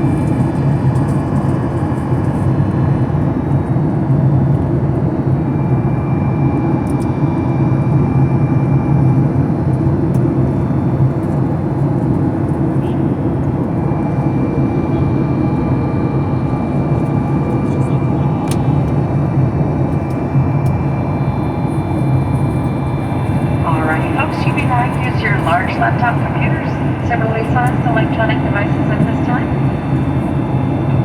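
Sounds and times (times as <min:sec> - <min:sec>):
airliner engines and airflow roar: 0:00.0 - 0:31.0.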